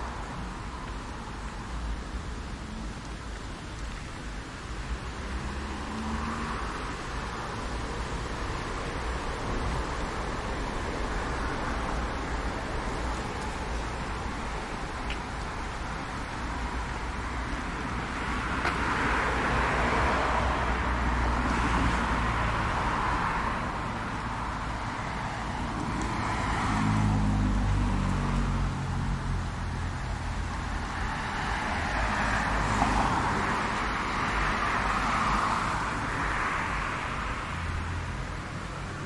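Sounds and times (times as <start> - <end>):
cars passing: 0.0 - 39.0.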